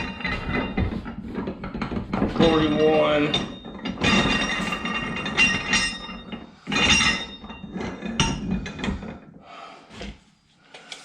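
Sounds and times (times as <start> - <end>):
metal parts knocking and clinking: 0.0 - 9.1.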